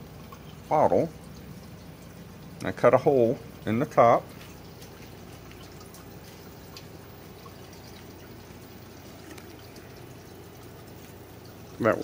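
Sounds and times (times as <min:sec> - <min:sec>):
water trickling through pipes: 0:00.0 - 0:12.0.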